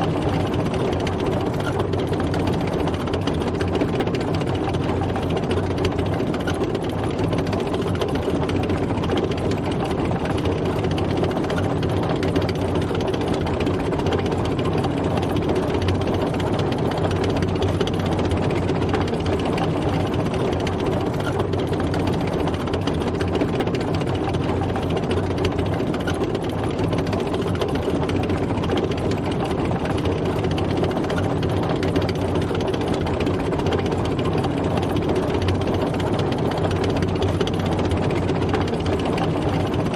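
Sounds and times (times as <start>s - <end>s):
tank engine running: 0.0s - 39.9s.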